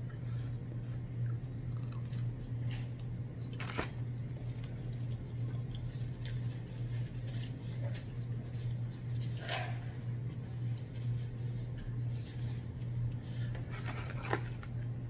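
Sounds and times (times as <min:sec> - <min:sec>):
chewing and crunching food: 0:00.0 - 0:15.0
steady low hum: 0:00.0 - 0:15.0.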